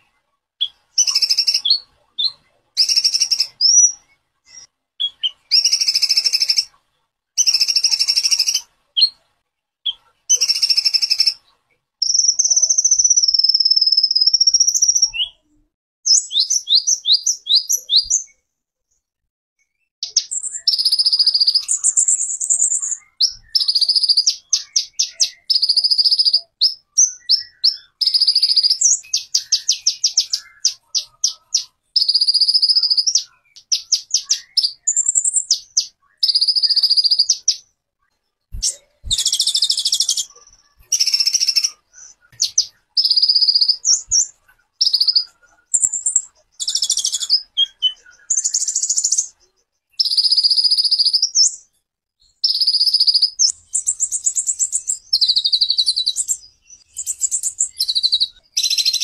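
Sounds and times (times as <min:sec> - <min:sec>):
songbird singing trills and whistles: 0:00.6 - 0:06.8, 0:07.4 - 0:09.2, 0:09.8 - 0:18.4, 0:19.6 - 0:59.0.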